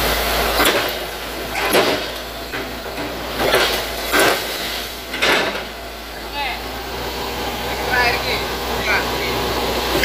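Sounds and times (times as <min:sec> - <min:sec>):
excavator engine humming: 0:00.0 - 0:10.0.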